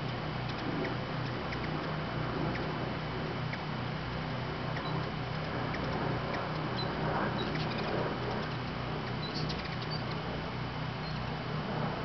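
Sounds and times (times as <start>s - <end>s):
hummingbirds chittering: 0.0s - 12.0s
steady low hum: 0.0s - 12.0s.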